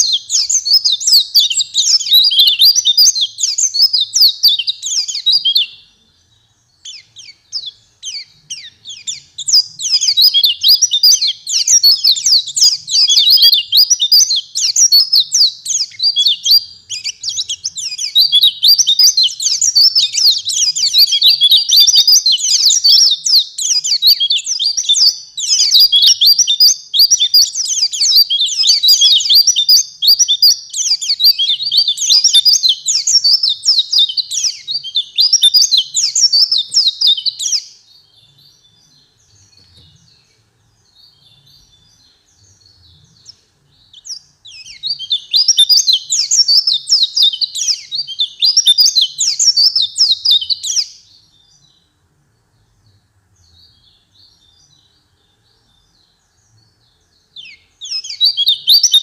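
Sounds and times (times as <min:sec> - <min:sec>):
bird high thin chirps and trills: 0:00.0 - 0:52.0, 0:53.5 - 0:59.0.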